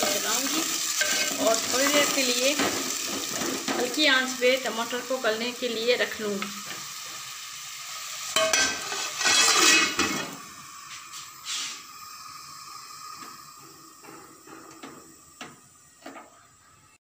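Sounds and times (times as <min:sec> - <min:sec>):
gas stove flame hissing: 0:00.0 - 0:17.0.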